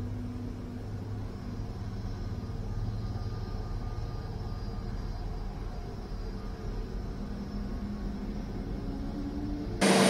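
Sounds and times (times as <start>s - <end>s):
jet engines rumbling with whine: 0.0s - 10.0s.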